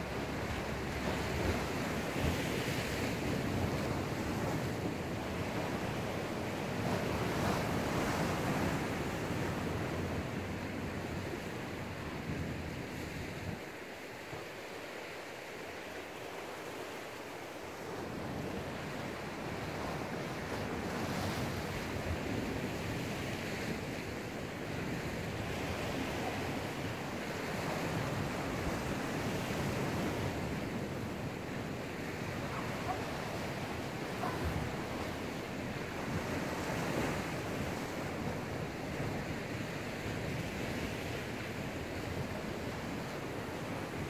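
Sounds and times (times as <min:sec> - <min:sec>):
surf washing on rocks: 0:00.0 - 0:44.0.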